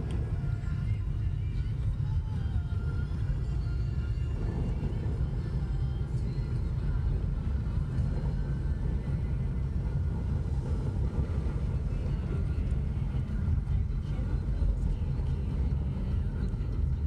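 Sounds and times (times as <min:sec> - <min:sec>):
strong gusty wind: 0:00.0 - 0:17.0.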